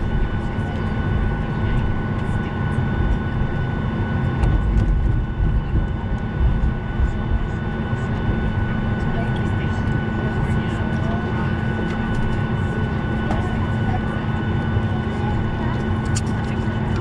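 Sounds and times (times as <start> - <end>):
aircraft cabin low rumble: 0.0 - 17.0
thin steady whine: 0.0 - 17.0.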